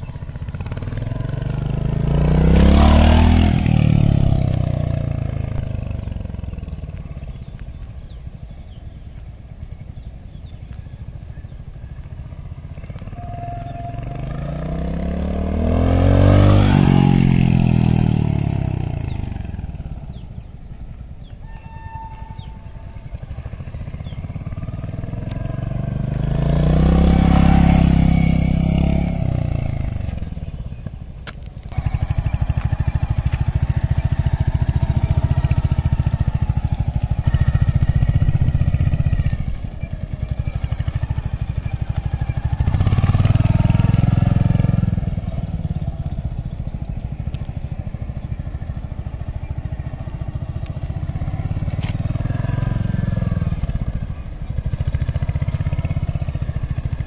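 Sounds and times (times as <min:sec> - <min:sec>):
motorcycle engine passing: 0:00.0 - 0:57.0.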